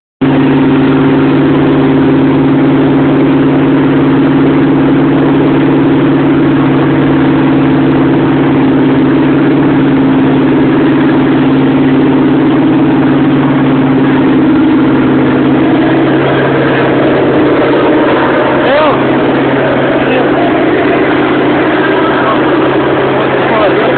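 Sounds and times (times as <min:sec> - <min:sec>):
engine idling rumble: 0:00.2 - 0:23.9.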